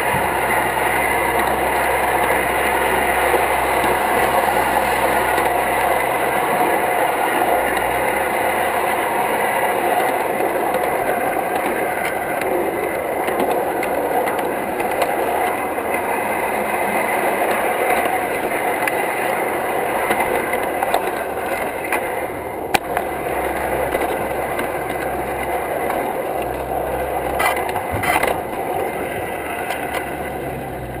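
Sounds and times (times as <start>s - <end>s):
model train wheels clattering: 0.0s - 30.7s.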